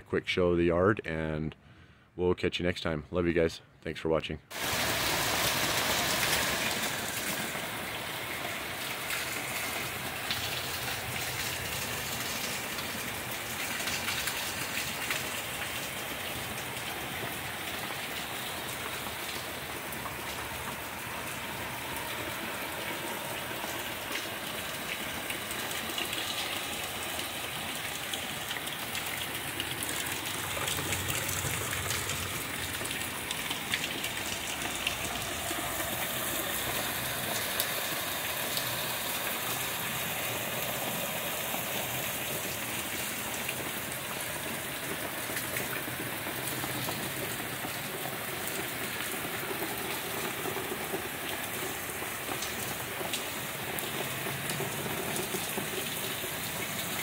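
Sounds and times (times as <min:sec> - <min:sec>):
sharp ticks of raindrops: 0:04.5 - 0:57.0
steady rain falling: 0:04.5 - 0:57.0.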